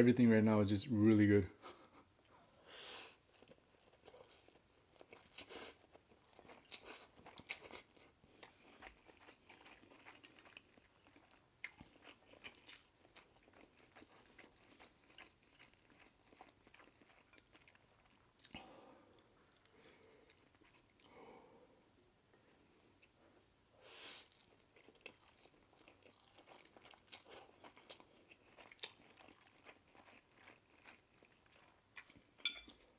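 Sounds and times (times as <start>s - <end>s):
person chewing food: 3.1s - 23.4s, 24.0s - 32.9s.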